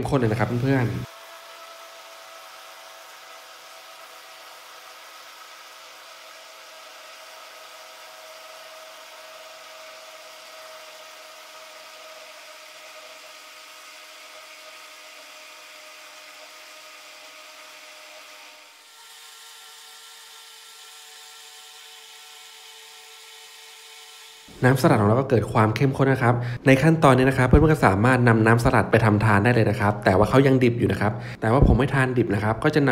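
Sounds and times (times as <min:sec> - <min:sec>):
blender motor whirring: 0:00.0 - 0:32.9.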